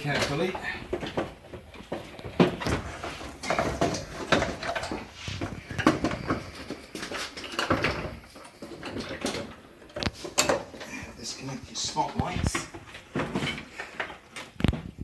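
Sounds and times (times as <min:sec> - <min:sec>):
car body parts knocking and rattling: 0:00.0 - 0:11.4, 0:12.0 - 0:15.0.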